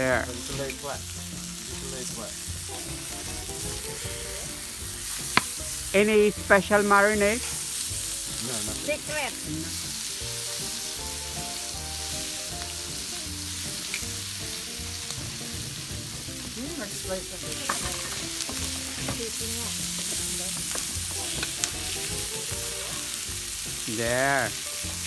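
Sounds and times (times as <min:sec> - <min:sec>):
meat sizzling on steel plate: 0:00.0 - 0:25.0.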